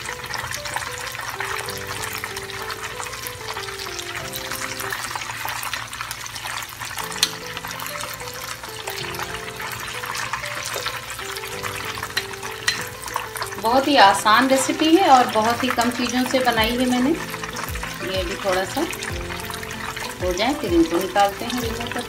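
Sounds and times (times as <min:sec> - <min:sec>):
chicken deep-frying in oil: 0:00.0 - 0:22.0
soft background music: 0:00.0 - 0:22.0.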